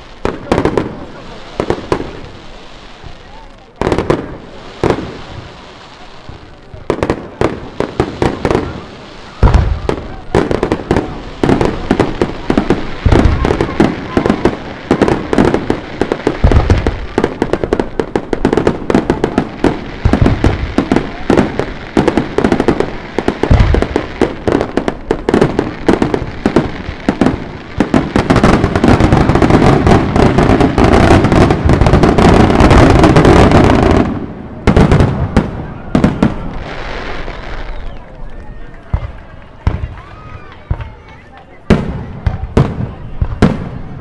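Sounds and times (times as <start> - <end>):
fireworks crackling and popping: 0.0 - 44.0.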